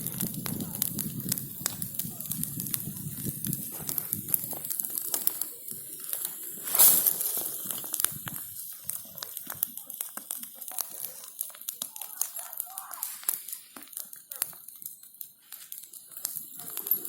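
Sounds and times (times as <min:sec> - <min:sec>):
bonfire crackling and popping: 0:00.0 - 0:17.0
fire hissing flare: 0:00.0 - 0:17.0.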